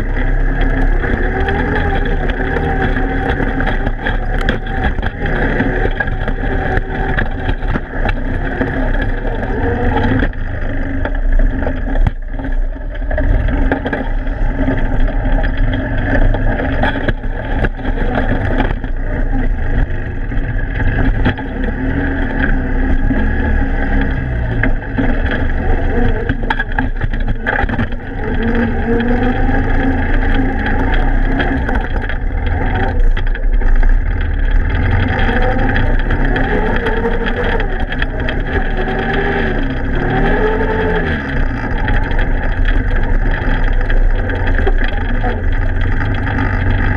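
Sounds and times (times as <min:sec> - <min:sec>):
atv engine running: 0:00.0 - 0:46.9.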